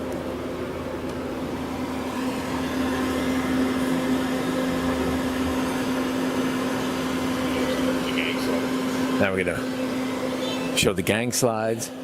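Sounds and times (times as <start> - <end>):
lathe spindle motor hum and whine: 0.0 - 12.0.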